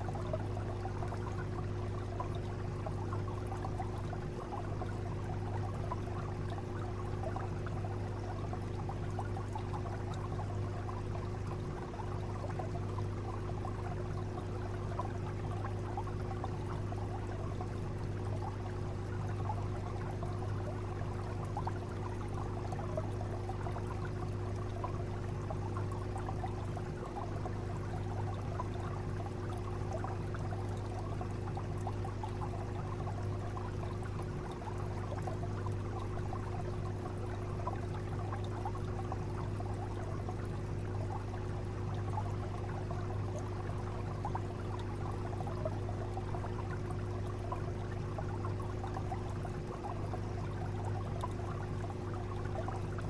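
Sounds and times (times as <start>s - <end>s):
aquarium water trickling: 0.0s - 53.0s
low steady hum: 0.0s - 53.0s.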